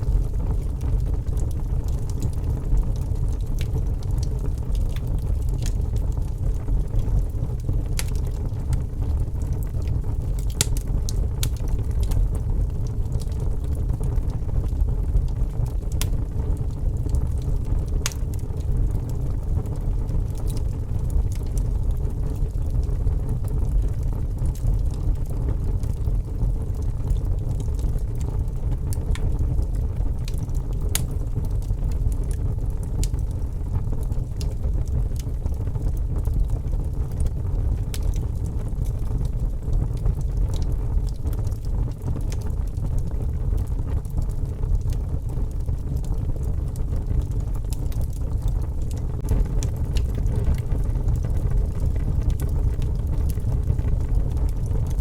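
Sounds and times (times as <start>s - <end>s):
steady low rumble: 0.0s - 55.0s
wood fire crackling: 0.0s - 55.0s
fire sharp pops: 0.1s - 55.0s.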